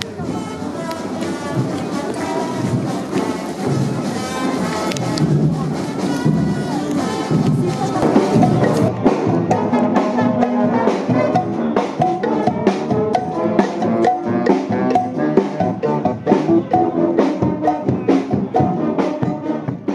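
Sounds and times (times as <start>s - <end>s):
bass drum beat: 0.0s - 19.9s
brass band playing: 0.0s - 19.9s.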